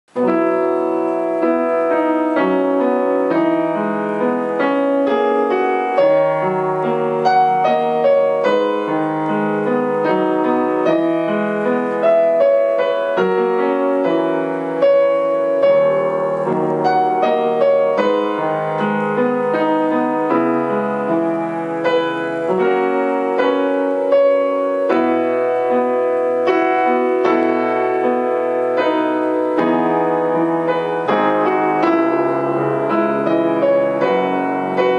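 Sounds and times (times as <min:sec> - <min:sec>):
piano music: 0:00.1 - 0:34.9.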